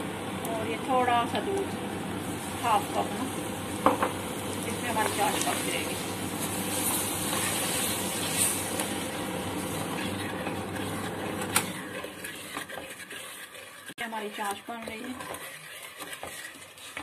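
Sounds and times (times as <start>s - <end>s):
syrup sizzling in a pot: 1.9s - 17.0s.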